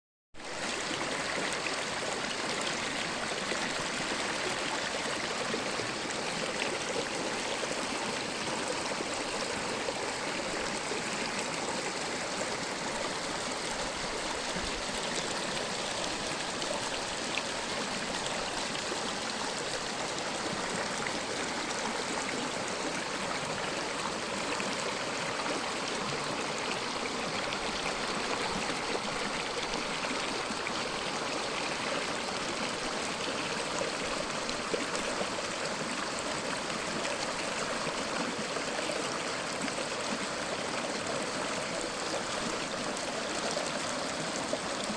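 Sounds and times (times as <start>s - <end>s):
water flowing: 0.4s - 44.9s.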